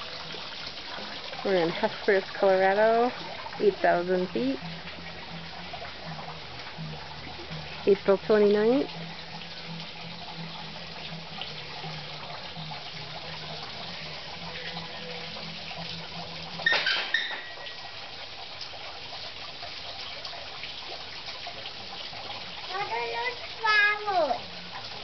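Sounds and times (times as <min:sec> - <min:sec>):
water trickling into pond: 0:00.0 - 0:25.0.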